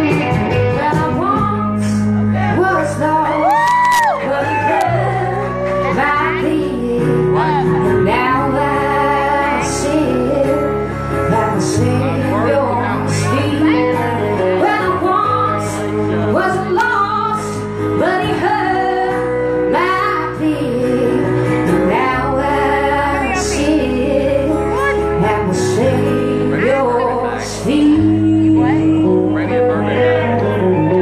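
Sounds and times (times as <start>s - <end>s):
woman singing: 0.0s - 30.9s
acoustic guitar: 0.0s - 31.0s.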